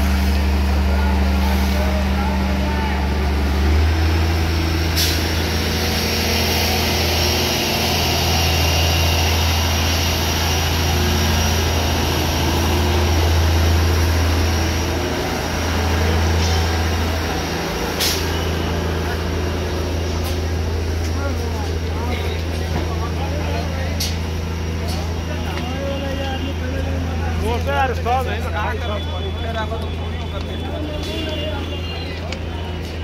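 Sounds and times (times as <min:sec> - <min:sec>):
heavy engine droning: 0:00.0 - 0:33.0.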